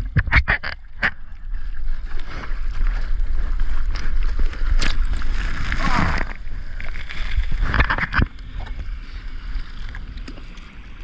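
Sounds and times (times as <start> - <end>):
seawater splashing: 0.0 - 11.0.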